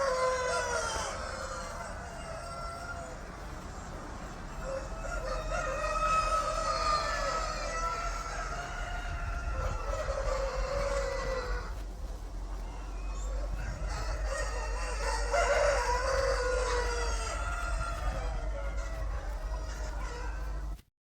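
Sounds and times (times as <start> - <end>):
rooster crowing: 0.0 - 20.8
steady low hum: 0.0 - 20.9.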